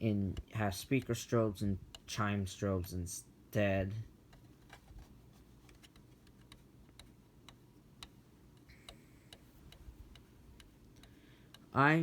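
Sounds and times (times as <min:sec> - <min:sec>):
faint regular ticking: 0:00.0 - 0:04.6, 0:05.2 - 0:12.0.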